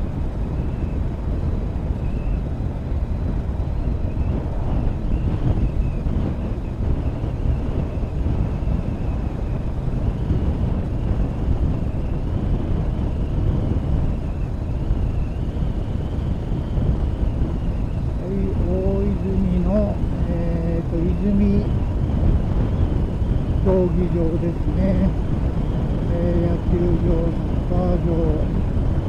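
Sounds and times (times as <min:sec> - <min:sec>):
faint high whine: 0:00.0 - 0:29.0
motorcycle engine running: 0:00.0 - 0:29.0
wind on microphone: 0:00.0 - 0:29.0.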